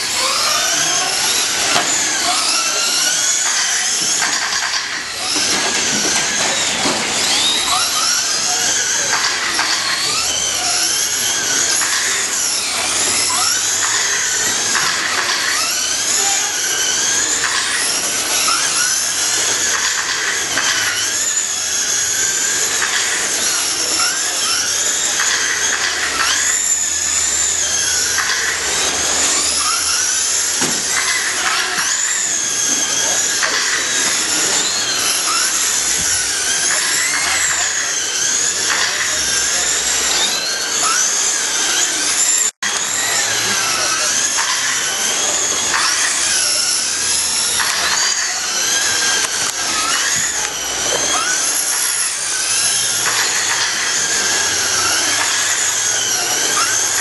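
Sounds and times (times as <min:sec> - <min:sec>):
rc truck motors whining: 0:00.0 - 0:57.0.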